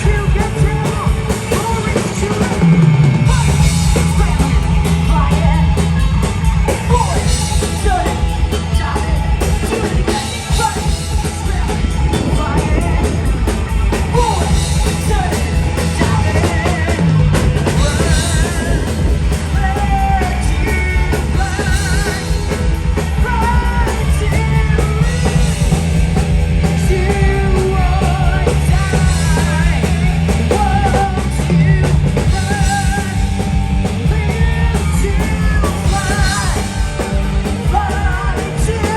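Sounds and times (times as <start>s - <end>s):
person singing: 0.0s - 25.9s, 26.6s - 38.9s
live rock band: 0.0s - 38.9s.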